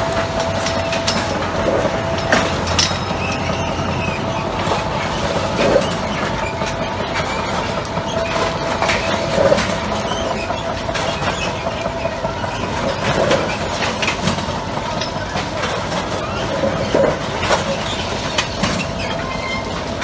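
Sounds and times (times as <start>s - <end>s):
machinery drone with whine: 0.0s - 20.0s
metallic clicks and clanks: 0.1s - 20.0s.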